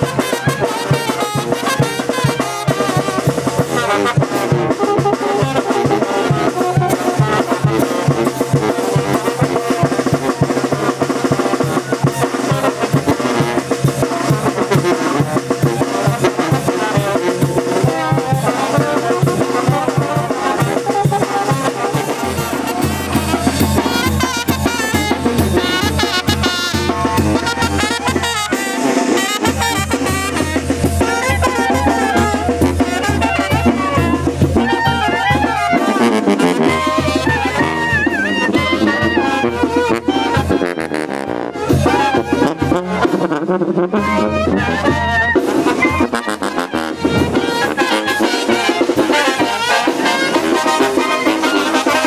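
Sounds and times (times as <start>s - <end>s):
brass band playing dance tune: 0.0s - 52.0s.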